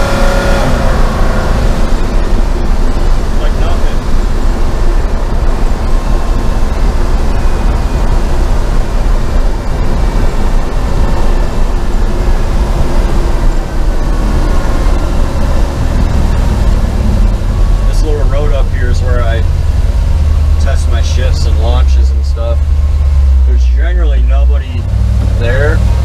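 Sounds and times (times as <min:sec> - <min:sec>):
engine drone inside vehicle cab: 0:00.0 - 0:26.0.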